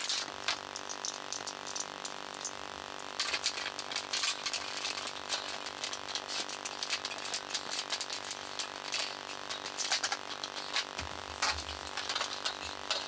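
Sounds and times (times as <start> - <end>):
small objects clicking and rattling: 0.0 - 13.0
steady hum: 0.0 - 13.0.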